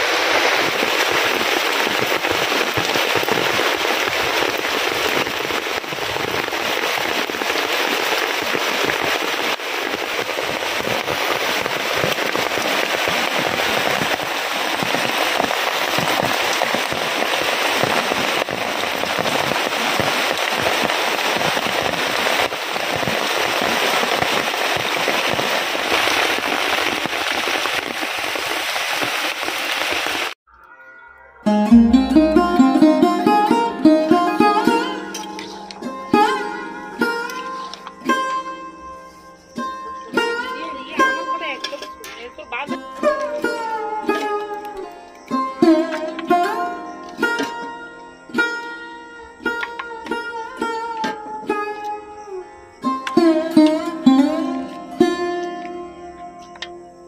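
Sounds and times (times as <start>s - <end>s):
heavy rain splashing into water: 0.0s - 30.4s, 31.8s - 38.5s, 39.4s - 48.5s.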